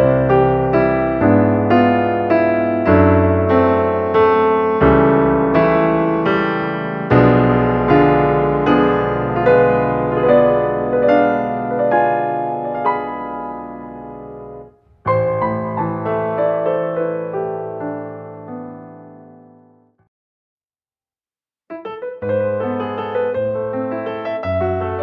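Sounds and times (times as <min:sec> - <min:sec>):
gentle piano music: 0:00.0 - 0:20.0, 0:21.7 - 0:25.0.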